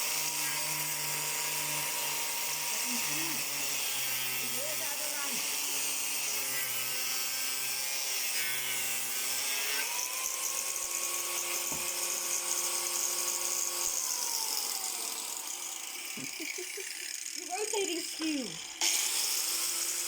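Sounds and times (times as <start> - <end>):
electric grinder motor whine: 0.0 - 20.0.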